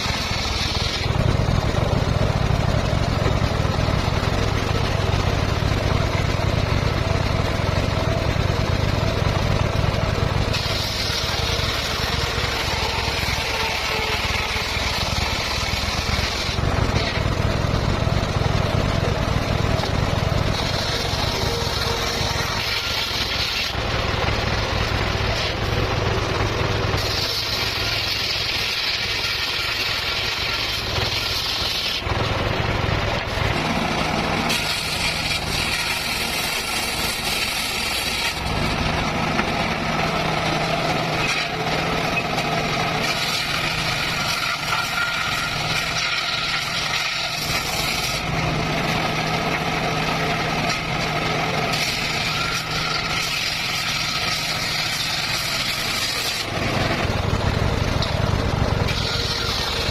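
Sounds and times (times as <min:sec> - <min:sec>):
circular saw cutting bamboo: 0:00.0 - 0:59.9.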